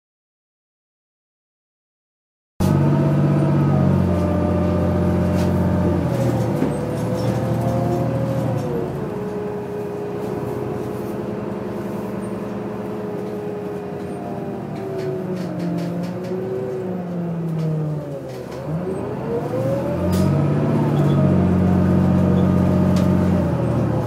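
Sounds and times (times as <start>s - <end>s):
bus engine low hum: 2.6s - 24.0s.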